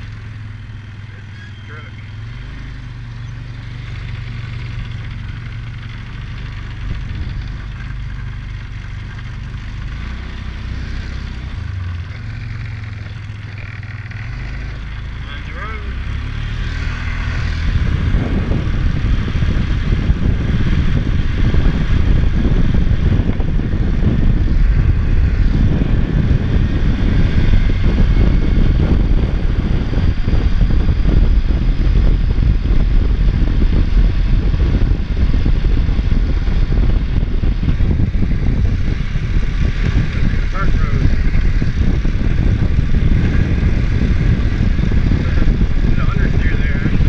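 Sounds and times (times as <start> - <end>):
atv engine running: 0.0 - 47.0
wind noise on microphone: 0.0 - 47.0.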